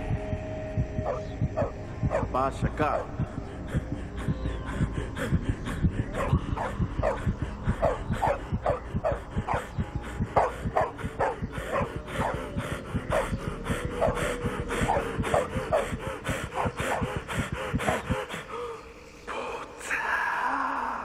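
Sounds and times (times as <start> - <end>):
low thumps: 0.0 - 18.2.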